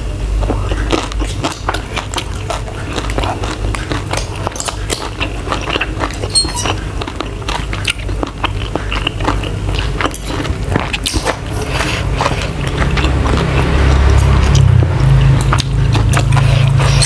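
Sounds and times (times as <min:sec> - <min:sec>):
steady low hum: 0:00.0 - 0:17.0
chewing and wet mouth sounds: 0:00.4 - 0:17.0.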